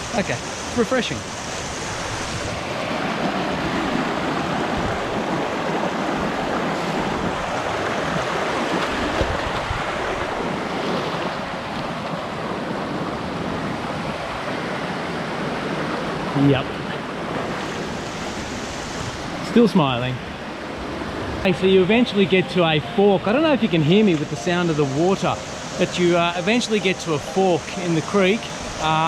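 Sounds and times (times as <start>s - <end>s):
creek water rushing over rocks: 0.0s - 29.0s.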